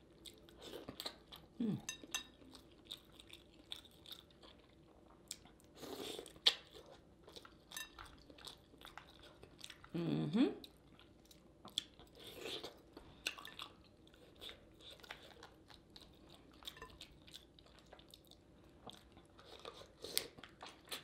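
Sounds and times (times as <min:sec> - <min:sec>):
person chewing food: 0:00.0 - 0:10.0, 0:10.6 - 0:21.0.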